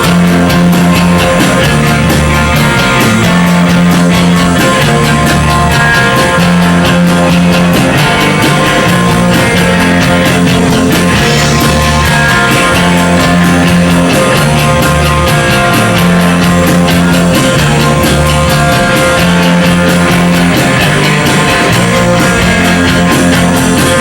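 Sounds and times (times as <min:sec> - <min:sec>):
bass guitar: 0:00.0 - 0:24.0
distorted electric guitars: 0:00.0 - 0:24.0
steady drum beat: 0:00.0 - 0:24.0.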